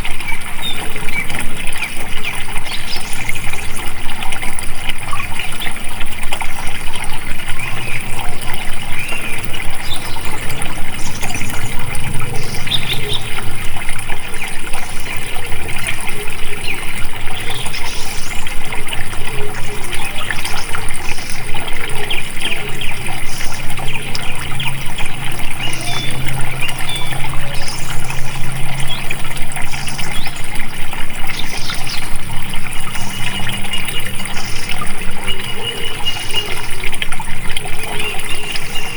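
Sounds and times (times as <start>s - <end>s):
water flowing loudly: 0.0s - 38.9s.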